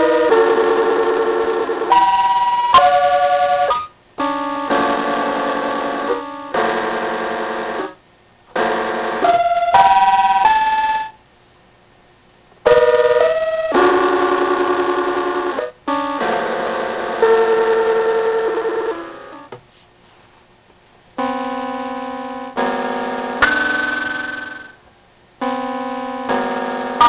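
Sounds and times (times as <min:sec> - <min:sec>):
buzzy organ-like keyboard chords: 0:00.0 - 0:11.2, 0:12.7 - 0:19.5, 0:21.2 - 0:24.8, 0:25.4 - 0:27.0.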